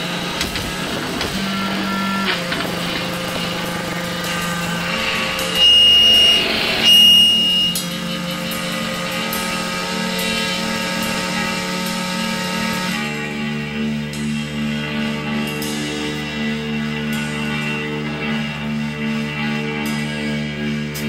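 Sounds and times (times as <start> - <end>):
high guitar feedback squeals: 0.0 - 20.9
electric guitar drone: 0.0 - 21.0.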